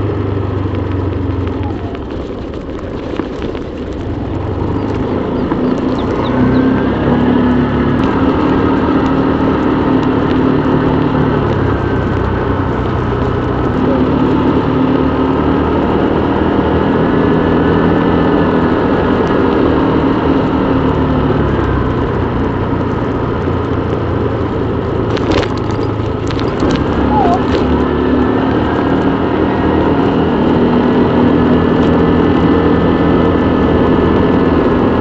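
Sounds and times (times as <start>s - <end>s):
motorbike engine running: 0.0s - 35.0s.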